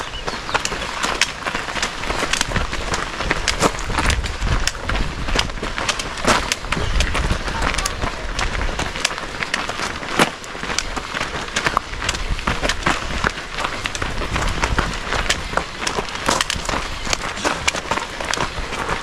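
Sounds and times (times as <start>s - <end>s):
footsteps clicking and crunching: 0.0s - 19.0s.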